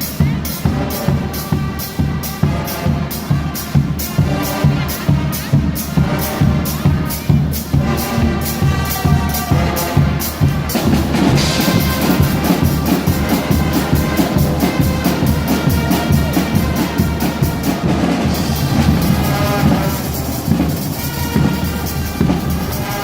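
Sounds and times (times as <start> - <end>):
brass horns playing: 0.0 - 23.0
drums beating: 0.0 - 23.0.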